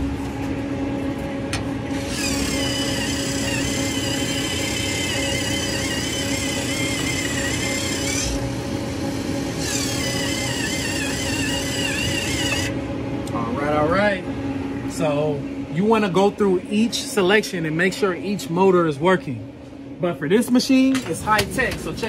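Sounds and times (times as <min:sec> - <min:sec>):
low machine hum: 0:00.0 - 0:22.0
vending machine motor whine: 0:00.0 - 0:22.0.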